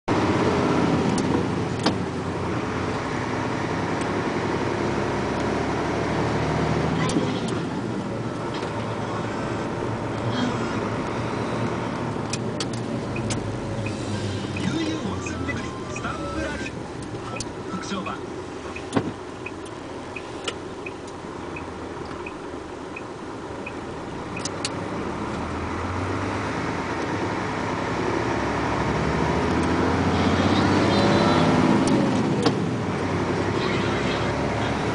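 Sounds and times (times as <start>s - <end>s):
car engine and road noise: 0.0s - 34.9s
turn signal ticking: 0.4s - 2.3s, 3.8s - 5.6s, 7.0s - 25.8s, 26.8s - 28.2s, 29.4s - 34.2s.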